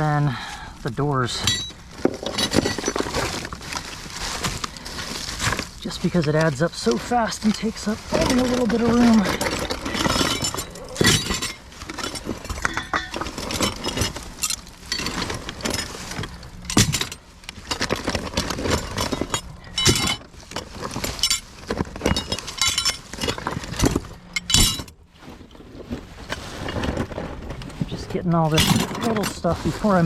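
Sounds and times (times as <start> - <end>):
scrap metal clanking: 1.2 - 30.0.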